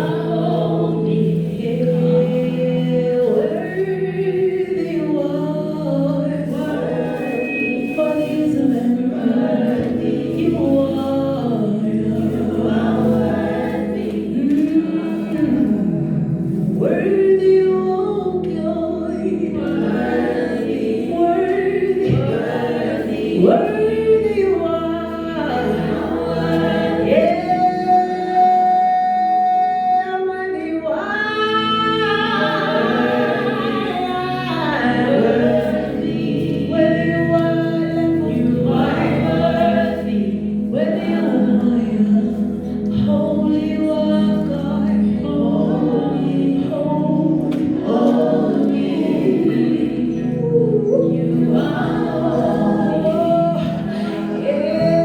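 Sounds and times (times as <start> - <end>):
gospel choir singing: 0.0 - 55.0
held chords: 0.0 - 55.0.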